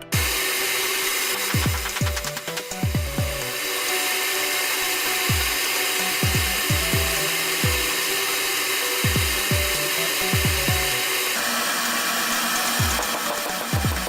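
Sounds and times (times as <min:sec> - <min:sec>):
electronic music: 0:00.0 - 0:14.0.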